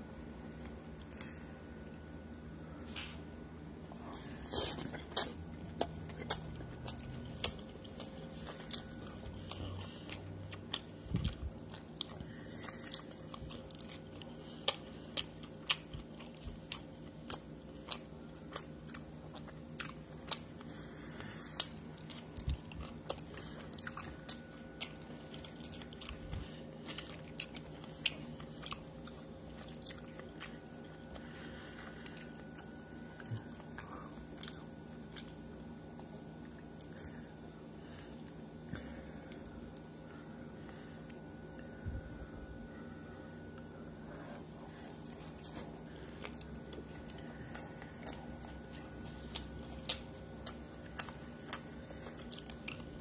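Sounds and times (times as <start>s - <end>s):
person chewing: 4.0s - 37.3s, 43.5s - 53.0s.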